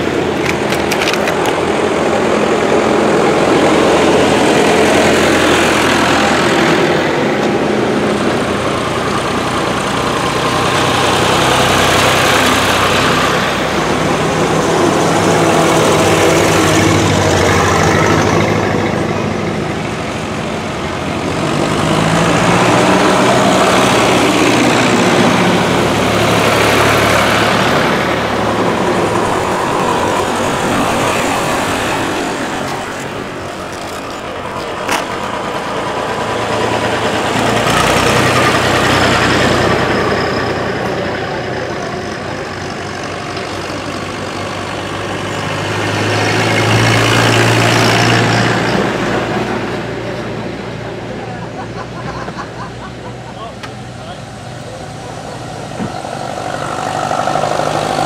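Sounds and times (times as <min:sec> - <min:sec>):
tractor engines driving past: 0:00.0 - 0:58.0.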